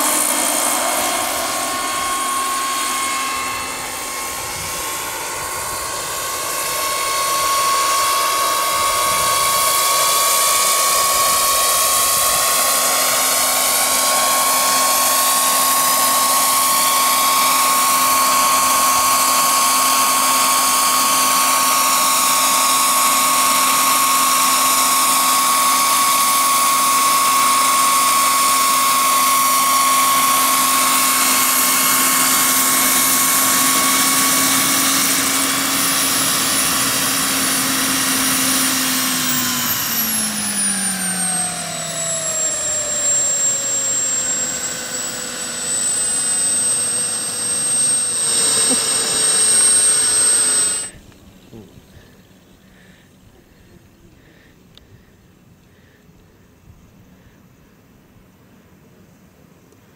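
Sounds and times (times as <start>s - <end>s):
model helicopter turbine whine: 0.0s - 59.9s.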